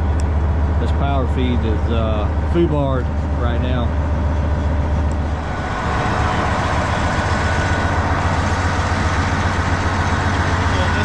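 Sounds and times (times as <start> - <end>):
heavy equipment engine droning: 0.0 - 11.0.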